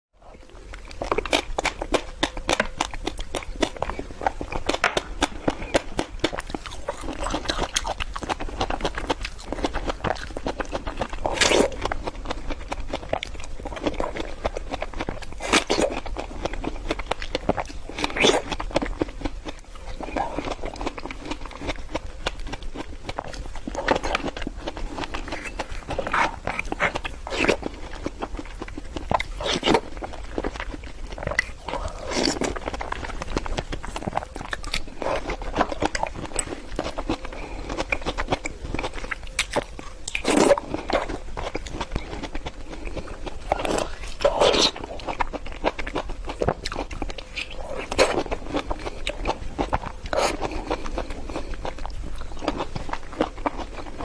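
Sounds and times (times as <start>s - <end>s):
crisp wet fruit crunching: 0.2s - 54.0s.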